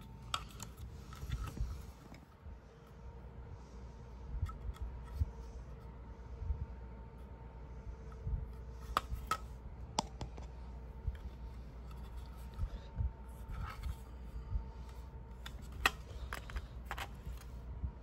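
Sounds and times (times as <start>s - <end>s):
soft handling rustle: 0.0s - 17.8s
faint steady hum: 0.0s - 18.0s.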